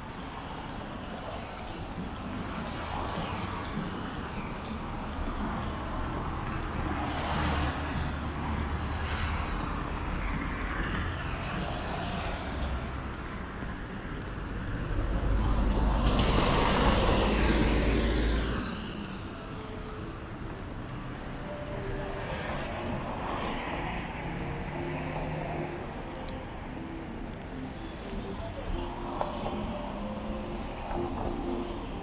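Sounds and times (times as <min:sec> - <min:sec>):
car engines and tyres: 0:00.0 - 0:32.0.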